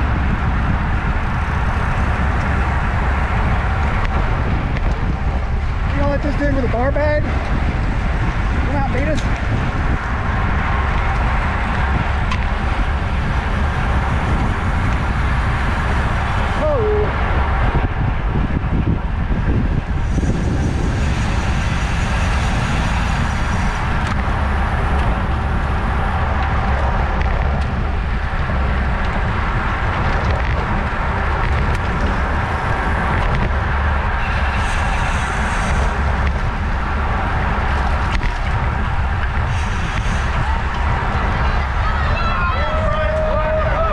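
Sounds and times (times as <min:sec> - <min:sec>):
bicycle tyre noise: 0:00.0 - 0:43.9
wind rushing over microphone: 0:00.0 - 0:43.9.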